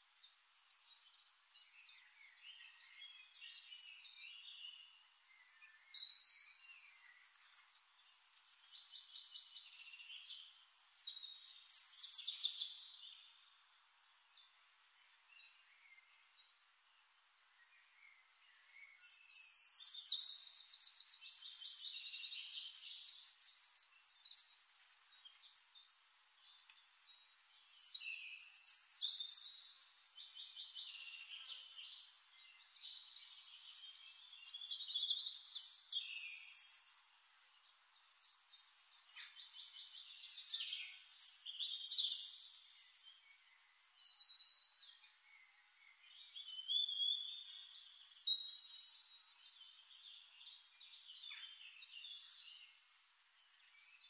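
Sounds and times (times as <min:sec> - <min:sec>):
songbird trilling and chirping: 0:00.2 - 0:16.5, 0:18.0 - 0:54.0.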